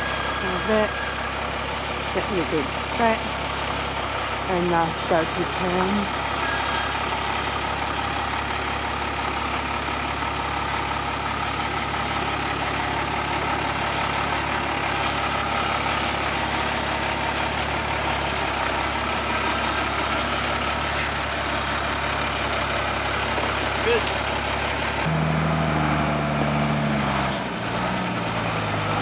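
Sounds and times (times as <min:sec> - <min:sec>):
truck diesel engine at low revs: 0:00.0 - 0:29.0.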